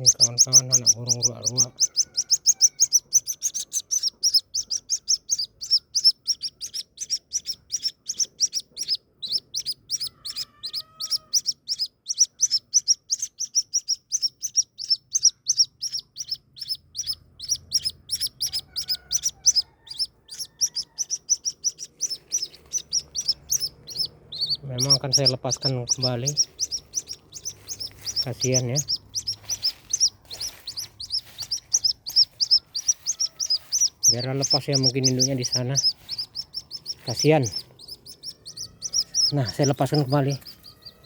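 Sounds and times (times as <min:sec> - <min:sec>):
bird chick peeping: 0:00.0 - 0:41.0.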